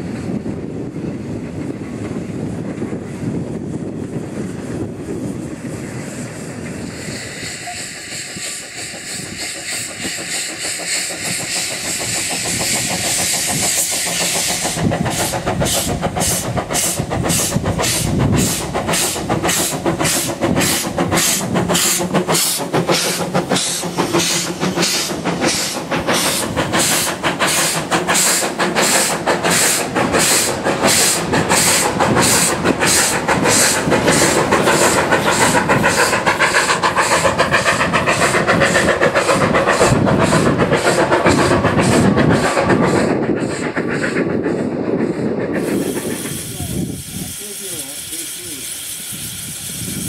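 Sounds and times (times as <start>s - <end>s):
steam locomotive exhaust beats: 0.0s - 50.0s
steady hiss of steam: 3.8s - 50.0s.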